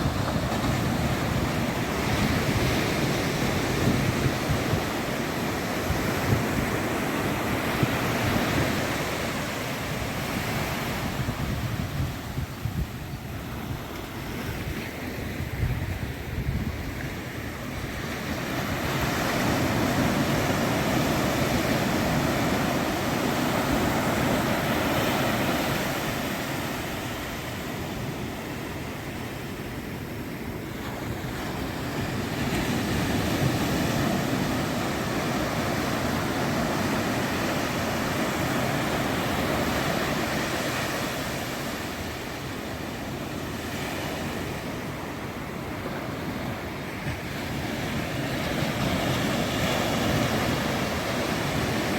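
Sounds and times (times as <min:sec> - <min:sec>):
ocean surf breaking: 0:00.0 - 0:51.9.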